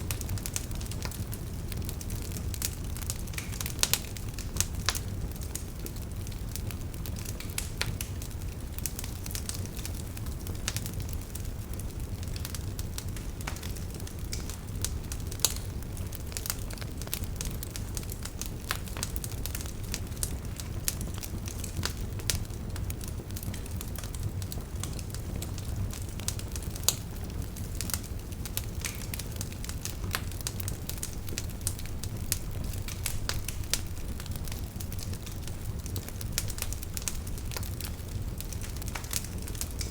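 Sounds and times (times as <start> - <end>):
fire crackles and pops: 0.0 - 39.9
wood fire rumbling: 0.0 - 39.9.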